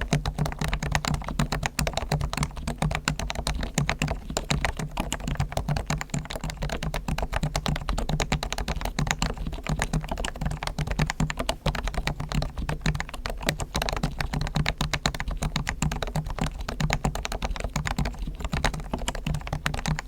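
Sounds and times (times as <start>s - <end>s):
soft keyboard typing: 0.0s - 20.0s.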